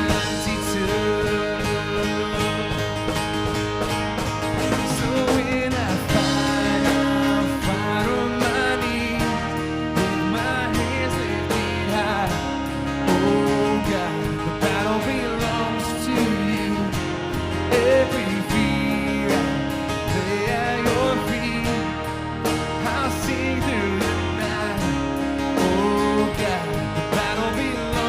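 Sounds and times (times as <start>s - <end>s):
band playing live: 0.0s - 28.0s
guitar: 0.0s - 28.0s.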